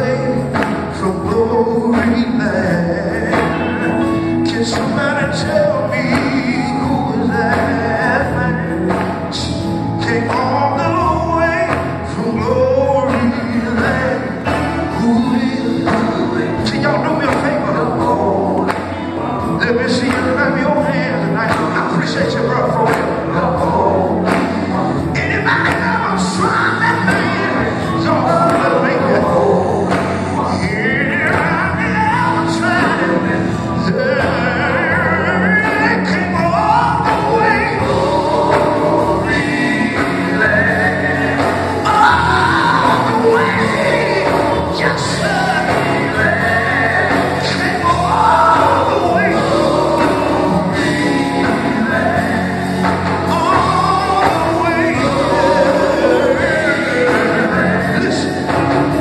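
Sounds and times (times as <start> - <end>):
amplified band playing: 0.0 - 59.0
backing vocals: 0.0 - 59.0
man singing into microphone: 0.0 - 59.0.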